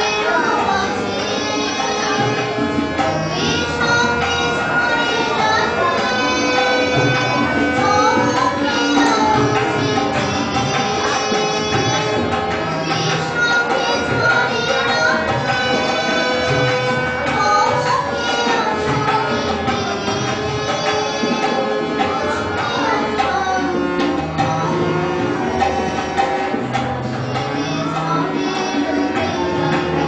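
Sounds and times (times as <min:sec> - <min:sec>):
harmonium notes: 0:00.0 - 0:30.0
tabla strokes: 0:00.1 - 0:30.0.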